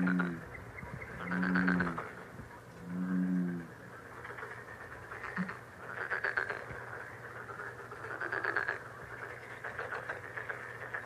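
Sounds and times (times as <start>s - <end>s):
faint low hum: 0.0s - 11.0s
frogs croaking in trills: 0.0s - 11.0s.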